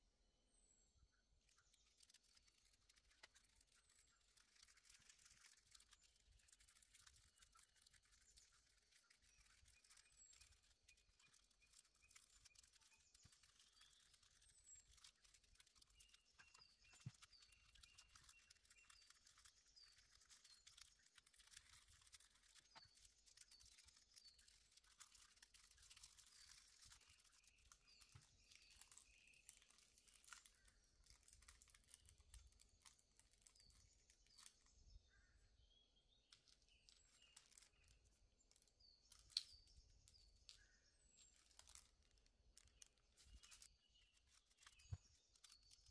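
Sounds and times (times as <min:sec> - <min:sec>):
faint bird chirps: 0:00.0 - 0:45.9
foil crinkling and rustling: 0:01.5 - 0:34.7, 0:36.2 - 0:45.9.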